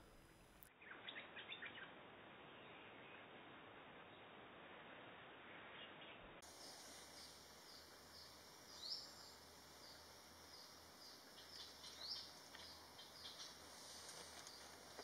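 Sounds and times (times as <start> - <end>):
small birds chirping: 0.0 - 3.2, 5.8 - 15.0.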